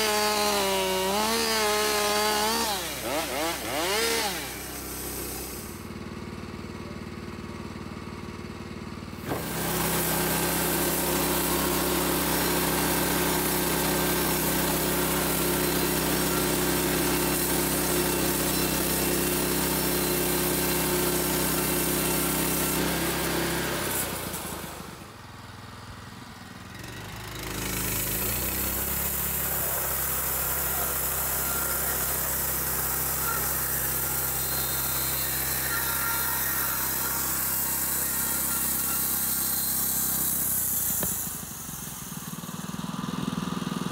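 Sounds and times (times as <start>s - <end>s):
band saw cutting log: 0.0s - 5.9s, 9.2s - 25.2s, 26.8s - 42.9s
sawmill engine running: 0.0s - 43.9s.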